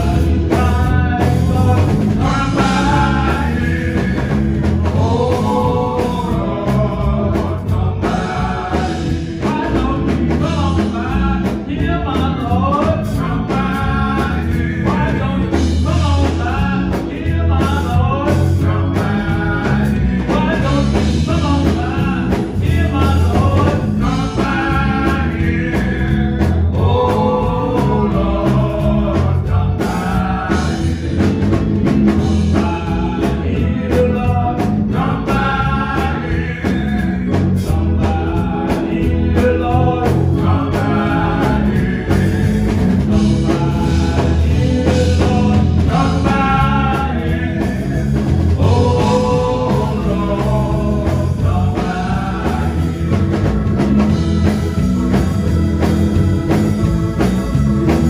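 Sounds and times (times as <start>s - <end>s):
bass and drums accompaniment: 0.0s - 58.0s
male vocal group singing gospel: 0.0s - 58.0s.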